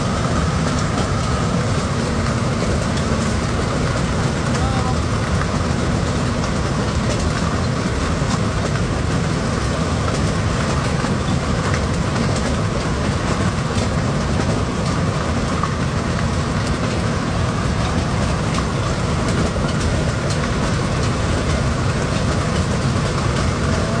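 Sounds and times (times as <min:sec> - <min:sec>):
constant low rumble: 0:00.0 - 0:24.0
steady rain: 0:00.0 - 0:24.0.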